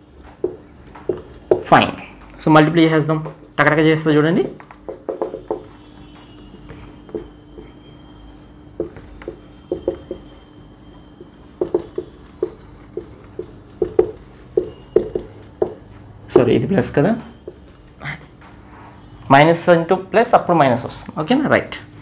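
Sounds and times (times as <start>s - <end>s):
marker writing on whiteboard: 0.0s - 18.4s
faint steady hum: 0.0s - 22.0s.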